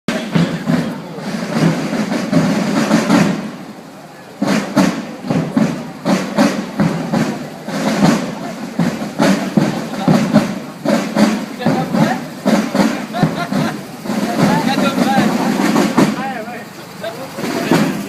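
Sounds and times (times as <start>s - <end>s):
people talking indistinctly: 0.1s - 18.0s.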